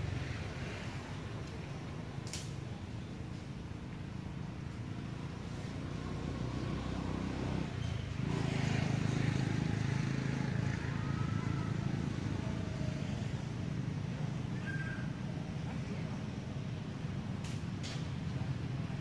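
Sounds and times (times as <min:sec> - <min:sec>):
passing vehicle engine rumble: 0:00.0 - 0:19.0.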